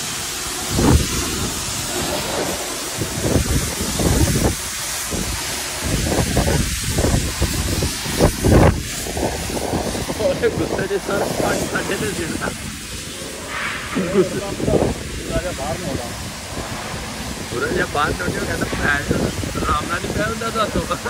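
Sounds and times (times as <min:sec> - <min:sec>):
pressure washer jet hissing: 0:00.0 - 0:21.0
water spattering: 0:00.0 - 0:21.0.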